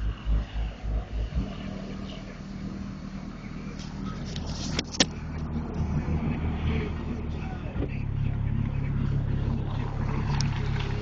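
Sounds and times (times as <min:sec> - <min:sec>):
deep subwoofer bass thumps: 0:00.0 - 0:11.0
steady low hum: 0:00.0 - 0:11.0.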